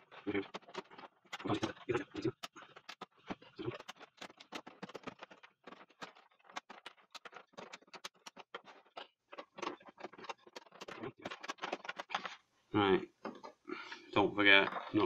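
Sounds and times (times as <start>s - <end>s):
plastic case clicking and scratching: 0.0s - 12.4s, 13.2s - 13.6s.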